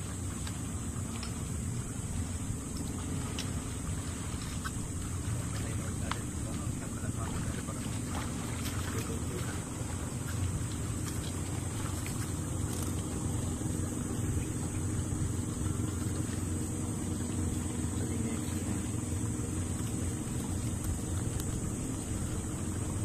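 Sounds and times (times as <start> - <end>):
constant high hiss: 0.0 - 23.0
motor running: 0.0 - 23.0.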